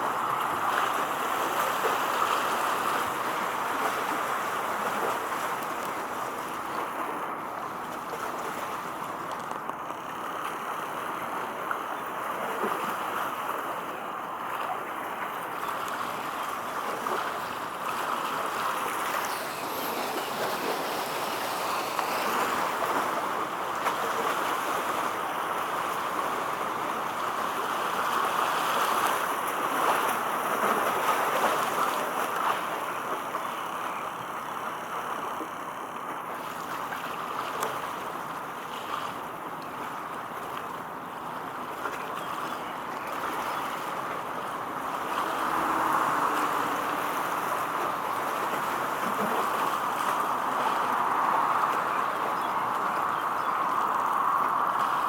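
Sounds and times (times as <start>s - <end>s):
rushing water and waves: 0.0s - 55.0s.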